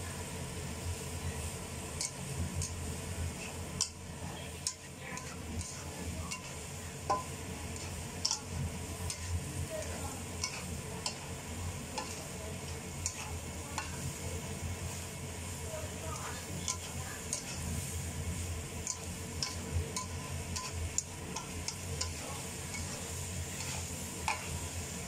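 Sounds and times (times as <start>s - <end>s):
low steady hum: 0.0s - 25.0s
noodles sizzling in a wok: 0.0s - 25.0s.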